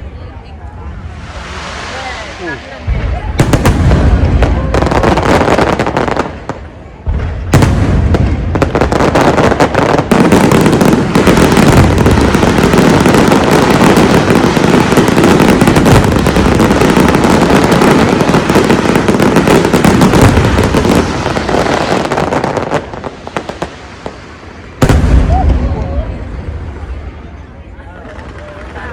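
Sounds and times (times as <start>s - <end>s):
fireworks bangs and crackling: 0.2s - 28.9s.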